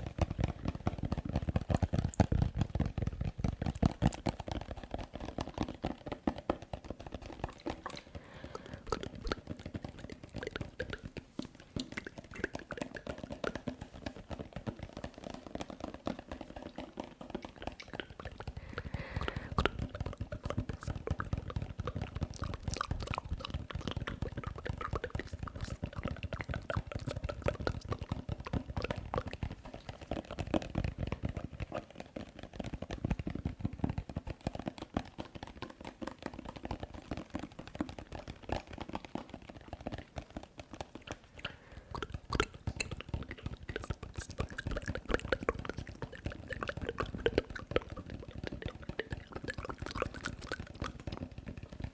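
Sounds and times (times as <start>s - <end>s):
wet mouth pops: 0.0s - 34.8s, 37.9s - 51.9s.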